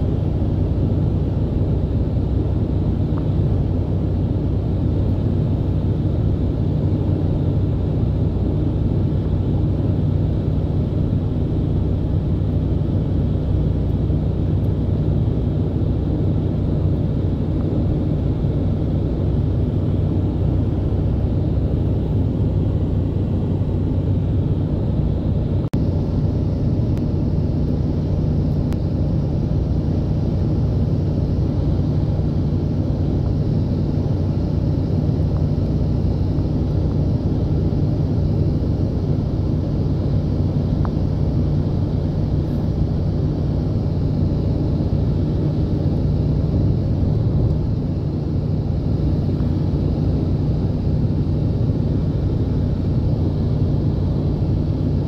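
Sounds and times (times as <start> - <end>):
car cabin road and engine rumble: 0.0 - 55.0.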